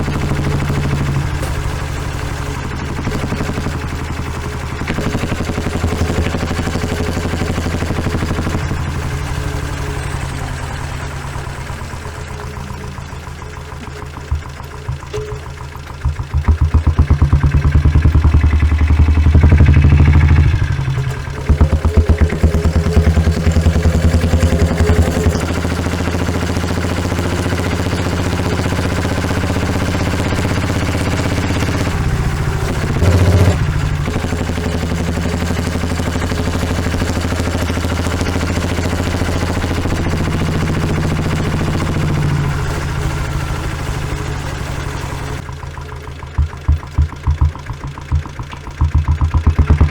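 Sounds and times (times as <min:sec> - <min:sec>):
single-cylinder diesel engine exhaust: 0:00.0 - 0:49.9.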